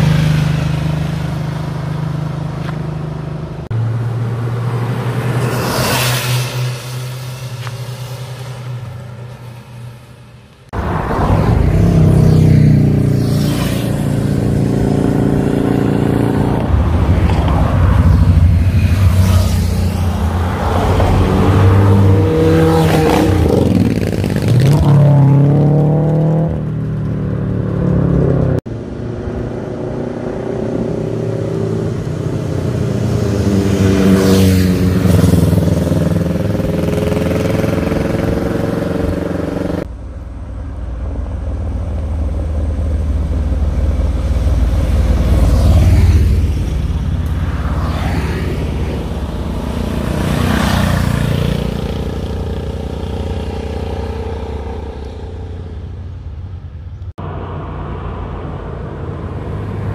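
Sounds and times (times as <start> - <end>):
cars and motorcycles passing: 0.0 - 59.9.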